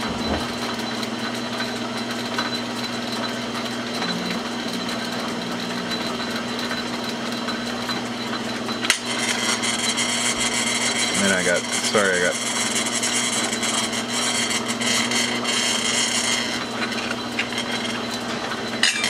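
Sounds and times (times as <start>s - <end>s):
metal lathe humming: 0.0s - 19.0s.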